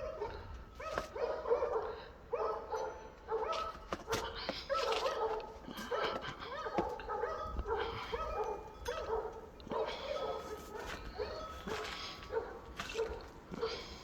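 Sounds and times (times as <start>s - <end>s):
dog barking and yipping: 0.0s - 14.0s.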